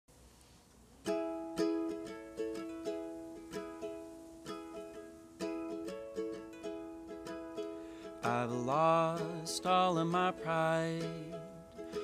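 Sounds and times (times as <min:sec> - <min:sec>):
plucked string instrument: 0:00.7 - 0:12.0.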